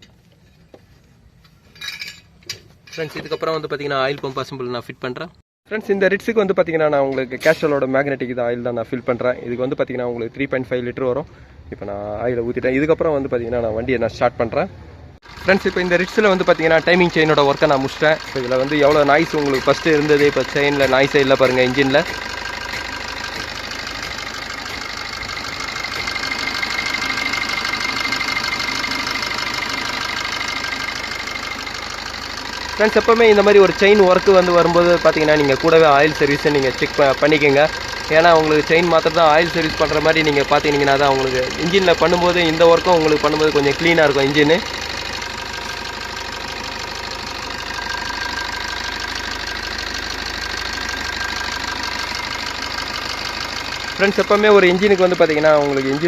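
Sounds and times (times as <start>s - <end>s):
car engine idling: 8.6s - 56.0s.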